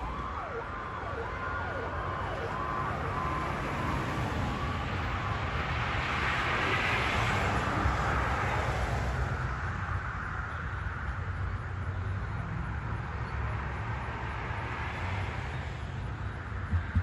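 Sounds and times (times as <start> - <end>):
outdoor traffic noise: 0.0 - 17.0
vehicle engine rumble: 0.0 - 17.0.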